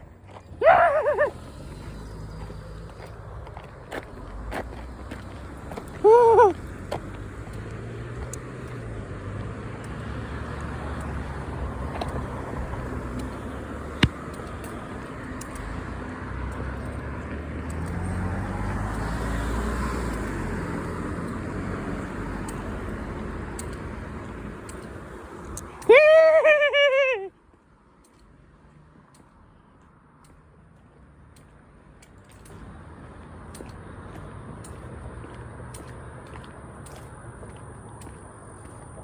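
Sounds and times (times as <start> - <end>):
car passing: 0.1 - 39.0.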